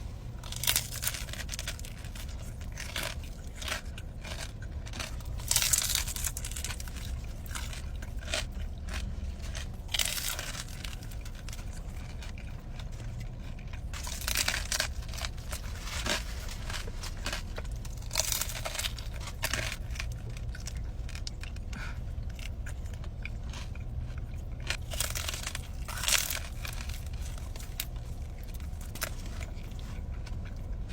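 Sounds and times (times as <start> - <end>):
crunching and chewing pork rinds: 0.0 - 30.9
steady low hum: 0.0 - 30.9.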